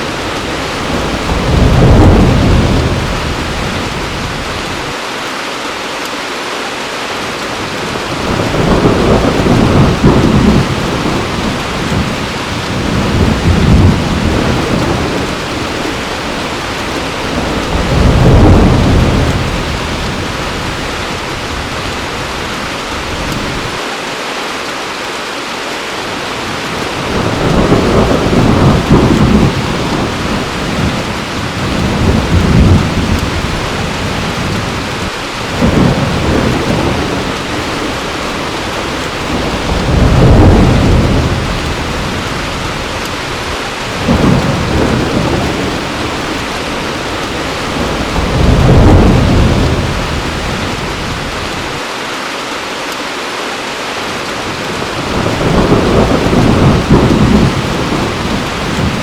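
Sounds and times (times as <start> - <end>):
thunder rumbling: 0.0 - 5.0, 7.6 - 23.8, 26.4 - 51.8, 54.3 - 59.0
heavy rain: 0.0 - 59.0.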